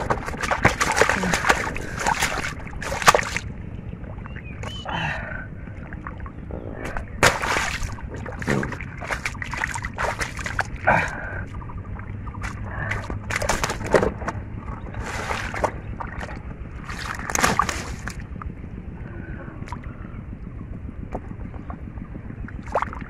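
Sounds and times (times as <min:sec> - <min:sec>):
muddy water splashing: 0:00.0 - 0:18.4, 0:22.6 - 0:23.0.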